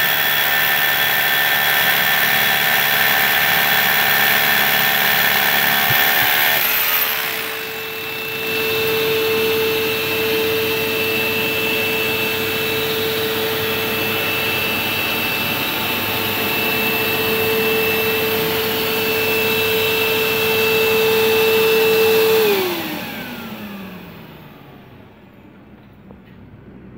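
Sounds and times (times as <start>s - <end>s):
rotary hammer drilling concrete: 0.0s - 25.1s
dust extractor humming: 0.0s - 25.2s
motor winding down whine: 0.0s - 25.2s.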